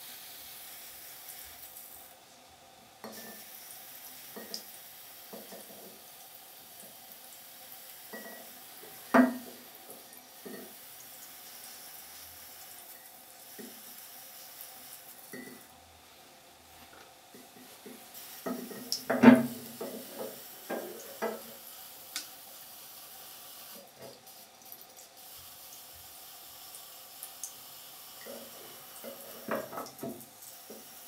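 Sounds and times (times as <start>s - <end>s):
mist maker hissing in water: 0.0s - 2.2s, 3.0s - 15.6s, 17.4s - 31.0s.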